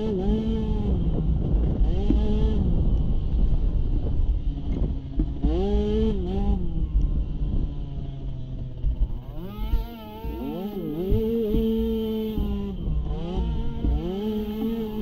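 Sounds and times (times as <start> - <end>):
low rumble of wind: 0.0 - 15.0
small atv engines revving: 0.0 - 15.0.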